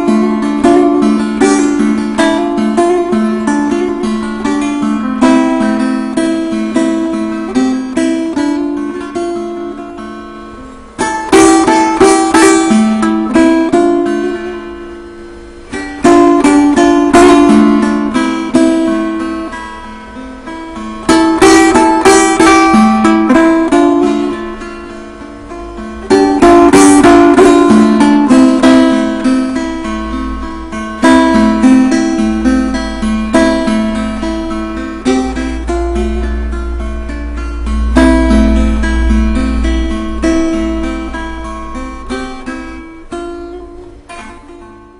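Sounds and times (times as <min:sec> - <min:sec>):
plucked lute strummed and picked: 0:00.0 - 0:44.9.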